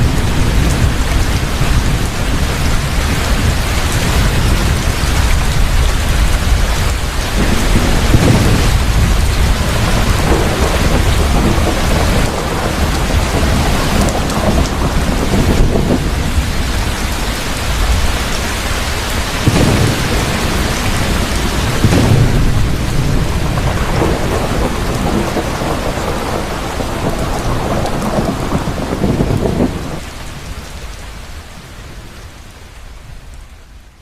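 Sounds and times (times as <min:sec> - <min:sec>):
rolling thunder rumbling: 0:00.0 - 0:30.7
heavy rain falling: 0:00.0 - 0:34.0.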